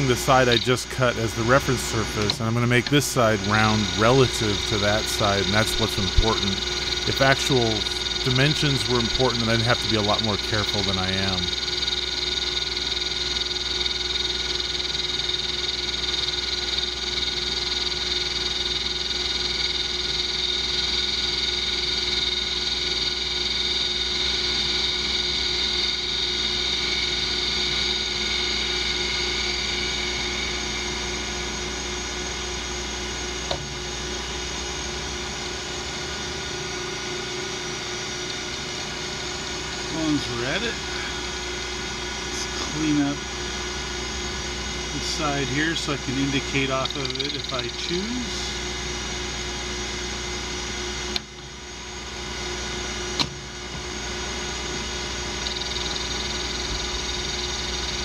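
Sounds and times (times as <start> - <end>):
metal lathe humming and whining: 0.0 - 58.0.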